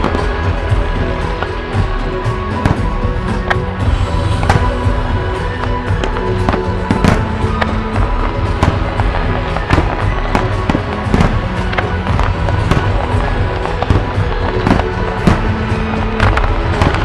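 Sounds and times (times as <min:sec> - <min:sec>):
fireworks bangs and crackles: 0:00.0 - 0:17.0
loud music: 0:00.0 - 0:17.0.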